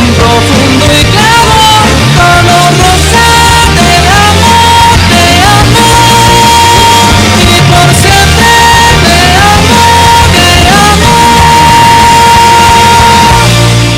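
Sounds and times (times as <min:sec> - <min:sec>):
loud rock music: 0:00.0 - 0:13.9
high piercing voice: 0:01.2 - 0:13.6.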